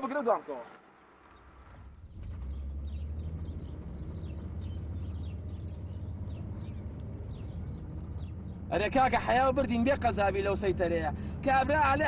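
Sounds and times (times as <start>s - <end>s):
road noise: 0.0s - 12.0s
car engine rumble: 1.2s - 12.0s.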